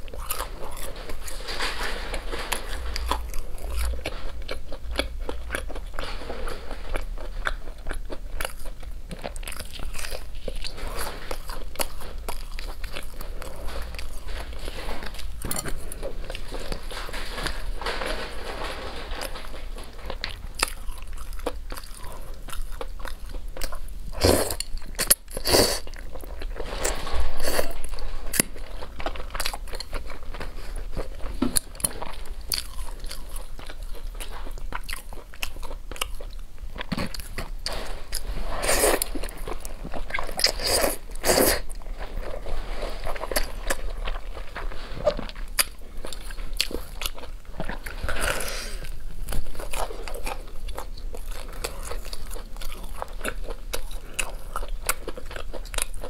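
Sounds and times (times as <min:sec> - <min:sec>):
crunchy bites and chewing: 0:00.0 - 0:18.6, 0:19.8 - 0:42.4, 0:43.0 - 0:56.0.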